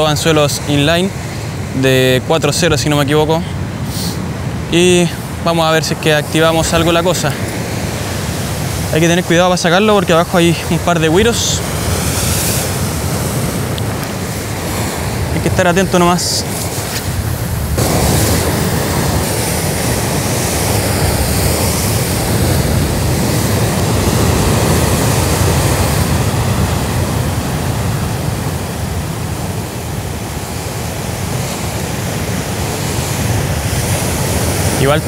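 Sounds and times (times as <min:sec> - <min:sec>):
heavy surf breaking on rocks: 0:00.0 - 0:35.0.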